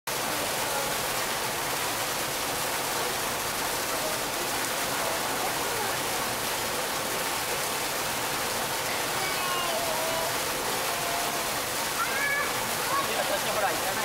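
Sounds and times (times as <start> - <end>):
water splashing into pool: 0.1 - 14.0.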